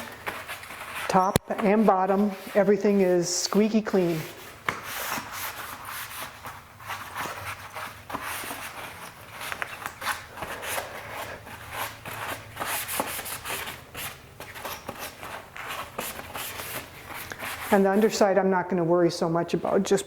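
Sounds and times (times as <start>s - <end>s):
cloth rubbing on plastic: 0.0s - 18.3s.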